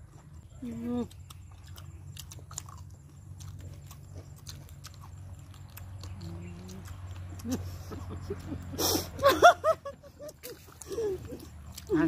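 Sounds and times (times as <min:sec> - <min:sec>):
people chewing and lip-smacking: 0:00.0 - 0:12.0
steady low hum: 0:00.0 - 0:12.0.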